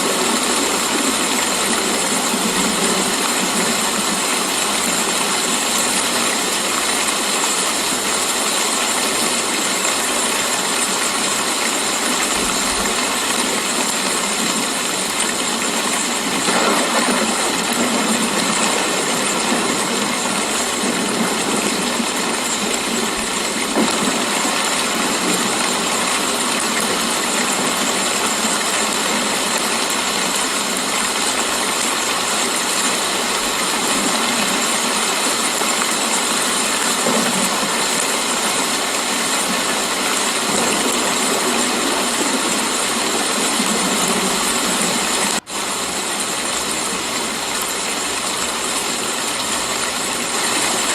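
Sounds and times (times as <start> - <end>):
hiss of falling rain: 0.0 - 50.9.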